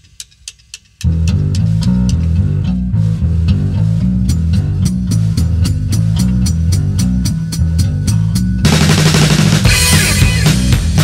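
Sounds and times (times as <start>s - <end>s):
drums steady beat: 0.0s - 11.0s
bass line: 1.0s - 11.0s
guitar: 1.0s - 11.0s.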